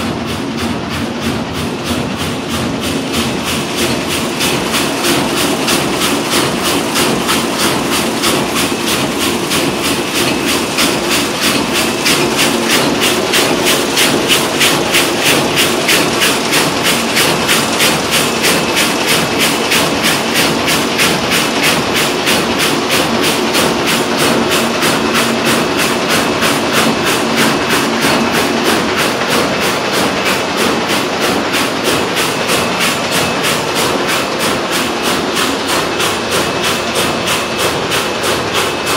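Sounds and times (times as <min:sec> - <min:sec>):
weaving loom clattering: 0:00.0 - 0:38.9.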